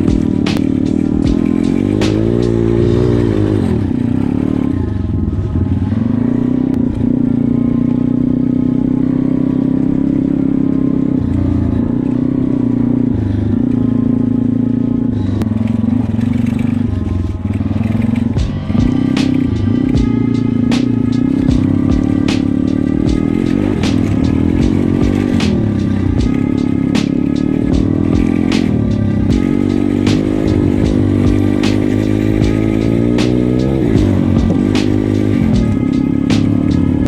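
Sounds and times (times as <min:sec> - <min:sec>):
motorbike engine revving: 0:00.0 - 0:37.0.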